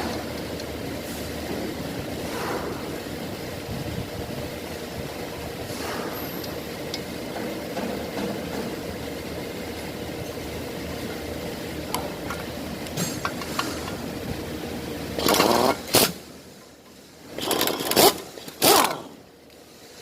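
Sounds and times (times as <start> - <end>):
mechanical running noise: 0.0 - 16.2.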